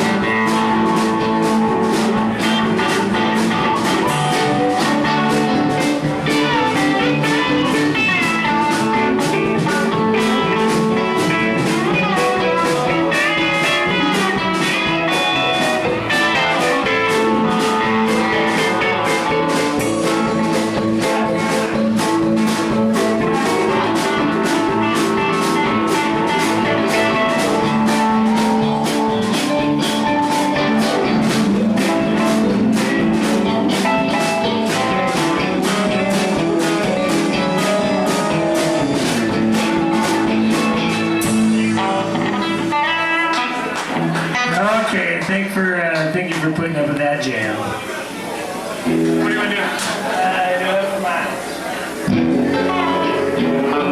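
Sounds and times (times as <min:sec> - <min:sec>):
drum kit steady beat: 0:00.0 - 0:45.2
electric guitar lines: 0:00.0 - 0:53.9.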